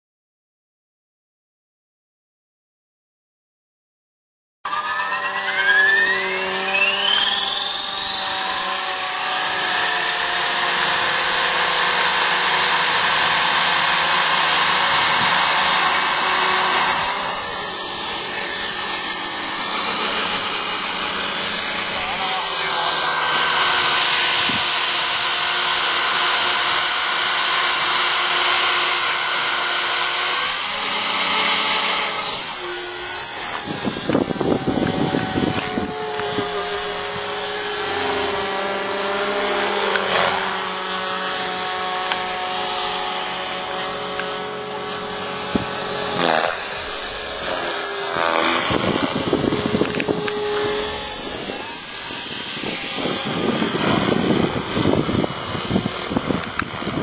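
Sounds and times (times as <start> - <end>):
model helicopter motor whine: 4.7 - 57.0.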